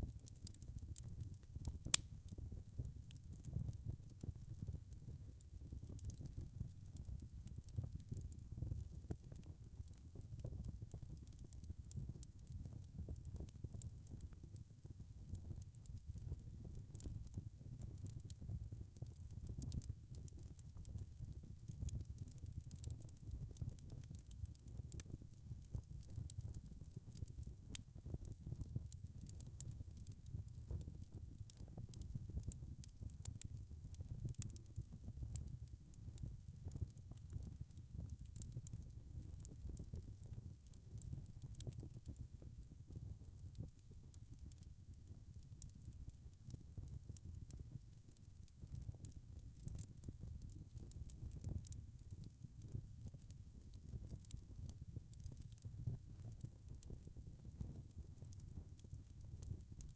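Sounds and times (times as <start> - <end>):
low rumble of burning: 0.0 - 59.9
wood fire crackling and popping: 0.0 - 59.9.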